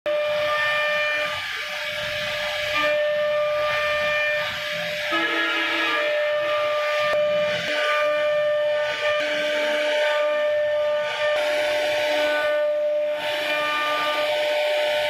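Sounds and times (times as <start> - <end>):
router spindle high whine: 0.1 - 15.0.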